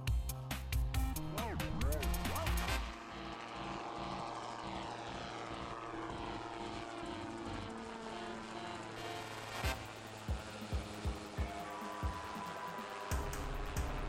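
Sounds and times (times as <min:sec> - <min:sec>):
aircraft engine and propeller droning: 0:00.0 - 0:14.0.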